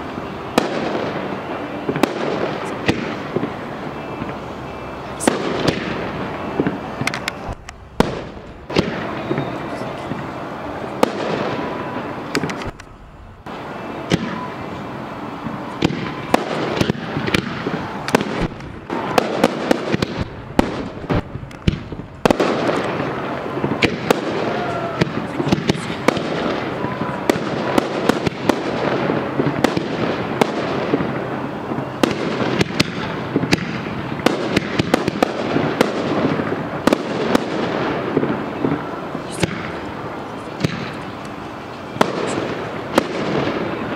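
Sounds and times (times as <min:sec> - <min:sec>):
fireworks crackling and rumbling: 0:00.0 - 0:43.9
firework shells bursting: 0:05.0 - 0:14.5, 0:15.4 - 0:43.9.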